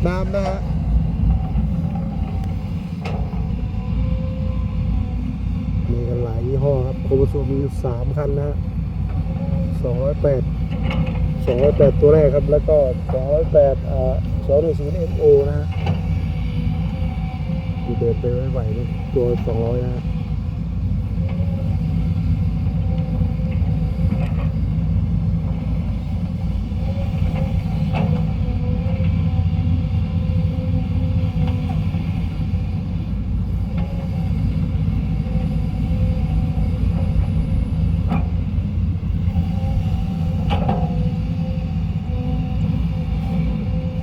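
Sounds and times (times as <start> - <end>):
excavator diesel engine rumbling: 0.0 - 44.0.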